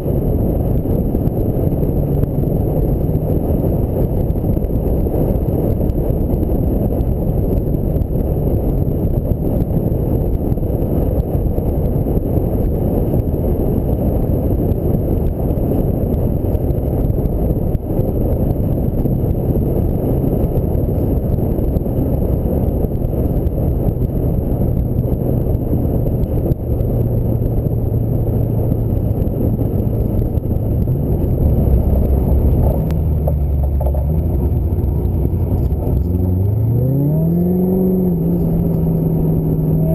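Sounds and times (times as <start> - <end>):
car engine drone: 0.0 - 39.9
wind and road noise: 0.0 - 39.9.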